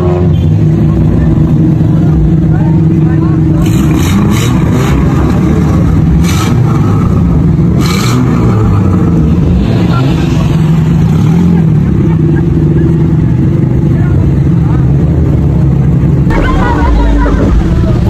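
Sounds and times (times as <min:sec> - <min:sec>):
car engines revving lightly: 0:00.0 - 0:18.0.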